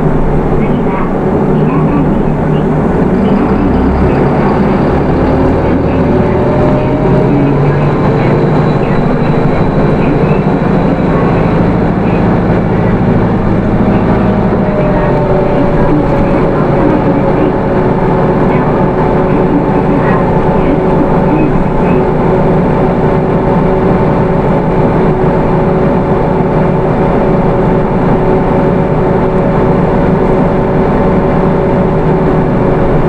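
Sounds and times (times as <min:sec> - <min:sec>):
diesel bus engine running: 0:00.0 - 0:33.0
road noise: 0:00.0 - 0:33.0.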